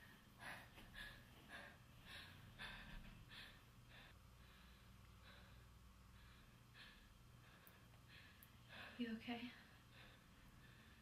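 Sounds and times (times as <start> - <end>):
low room hum: 0.0 - 11.0
woman breathing heavily: 0.0 - 11.0.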